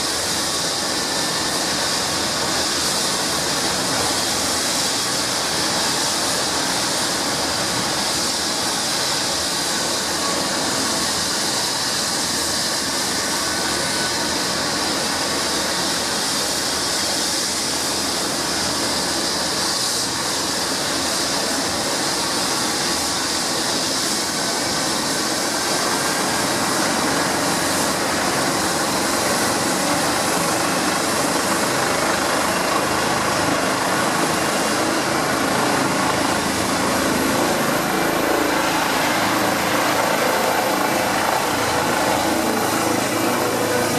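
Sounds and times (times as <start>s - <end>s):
helicopter turbines and rotor: 0.0s - 43.9s.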